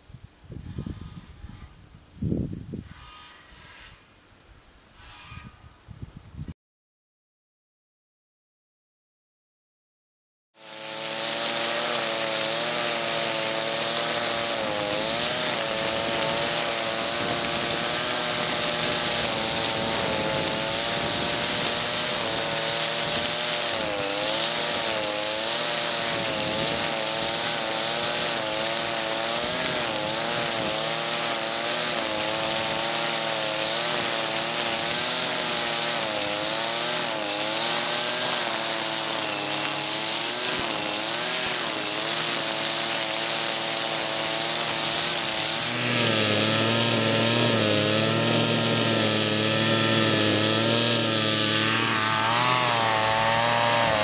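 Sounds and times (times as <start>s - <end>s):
brush cutter engine running: 10.6s - 54.0s
whirring hiss of cutting head: 10.6s - 54.0s.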